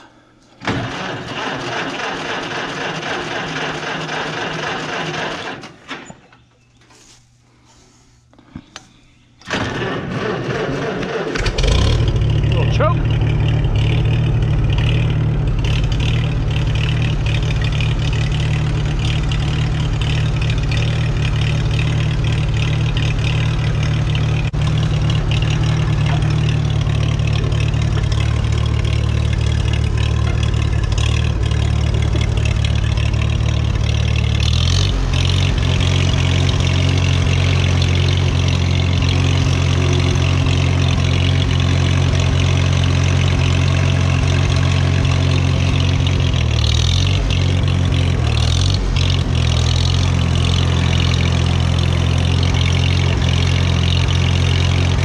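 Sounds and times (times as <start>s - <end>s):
tractor engine running: 0.6s - 5.9s, 9.4s - 55.0s.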